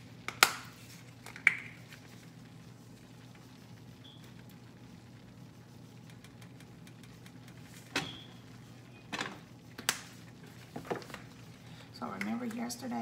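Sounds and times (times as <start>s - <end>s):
roux crackling in a skillet: 0.0s - 12.7s.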